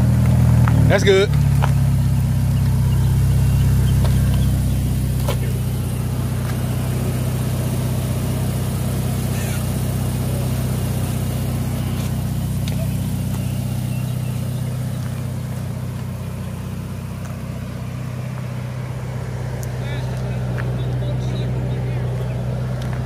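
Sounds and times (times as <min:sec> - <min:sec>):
sports car engine idling: 0:00.0 - 0:23.0.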